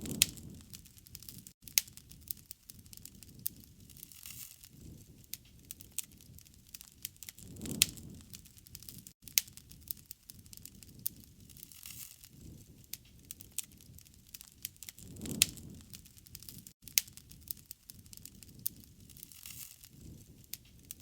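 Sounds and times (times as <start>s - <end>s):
campfire crackling: 0.0s - 21.0s
low rumble of flames: 0.0s - 21.0s.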